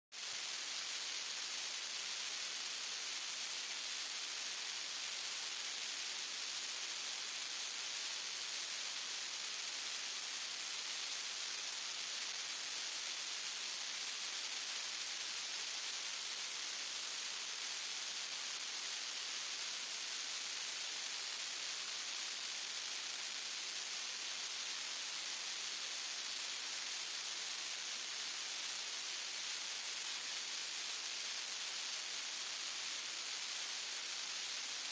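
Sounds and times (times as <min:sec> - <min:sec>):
high-pitched static hiss: 0:00.1 - 0:34.9.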